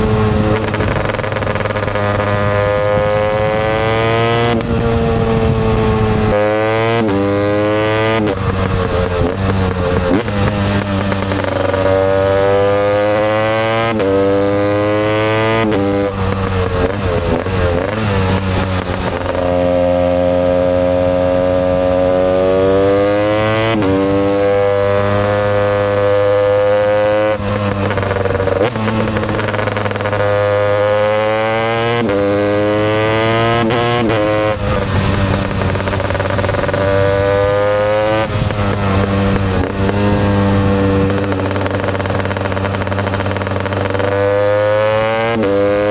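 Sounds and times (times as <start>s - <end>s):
two-stroke engine running hard: 0.0s - 45.9s.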